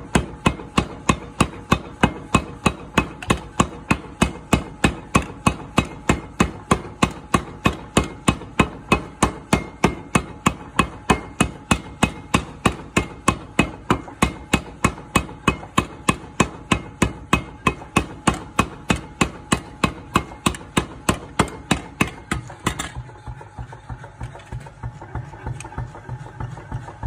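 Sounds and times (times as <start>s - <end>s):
power hammer pounding metal: 0.0s - 25.6s.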